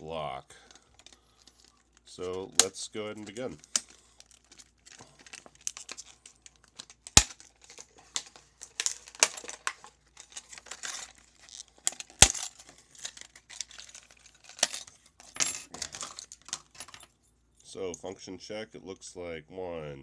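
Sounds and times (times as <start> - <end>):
plastic packaging crinkling: 0.6 - 16.7.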